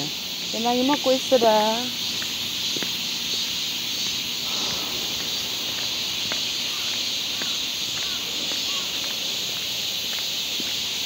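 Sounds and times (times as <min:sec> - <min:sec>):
high-pitched outdoor hiss: 0:00.0 - 0:11.0.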